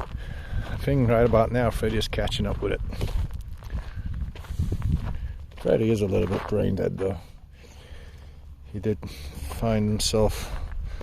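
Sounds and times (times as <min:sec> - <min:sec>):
soft footsteps: 0:00.0 - 0:11.0
steady low rumble: 0:00.0 - 0:11.0.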